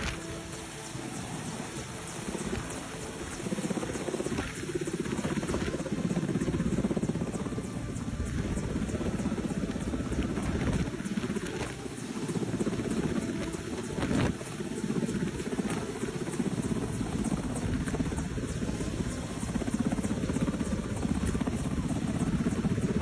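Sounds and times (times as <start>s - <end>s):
helicopter rotor beating: 0.0s - 23.0s.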